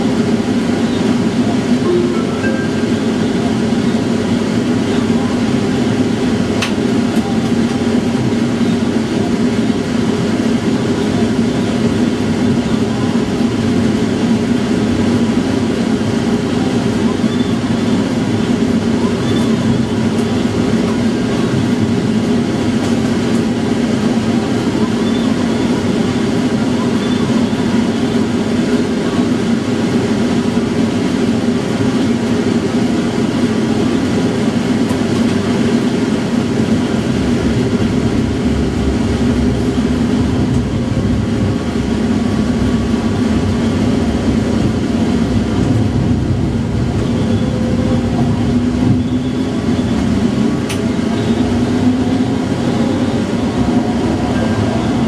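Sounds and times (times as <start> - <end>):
tram motors and wheels rumbling: 0.0 - 55.0.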